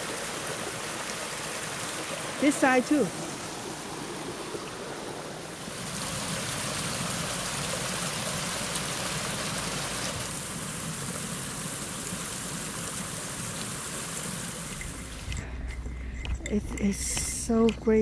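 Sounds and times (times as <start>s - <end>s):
stream rushing over stones: 0.0s - 15.4s.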